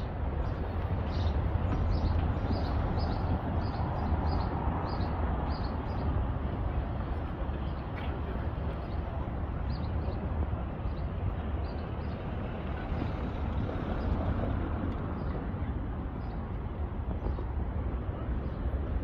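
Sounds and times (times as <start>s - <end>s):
road traffic rumbling: 0.0s - 19.0s.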